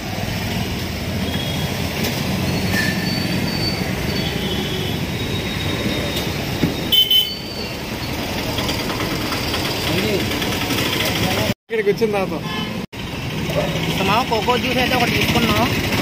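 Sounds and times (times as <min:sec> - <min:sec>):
roadside traffic: 0:00.0 - 0:16.0.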